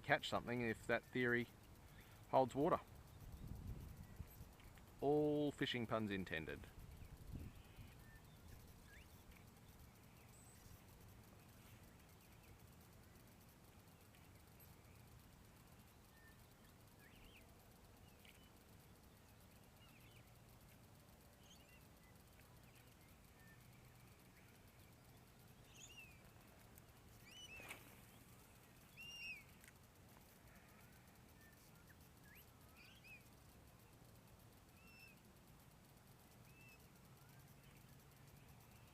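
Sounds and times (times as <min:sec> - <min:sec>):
faint bird chirps: 0:00.1 - 0:38.9.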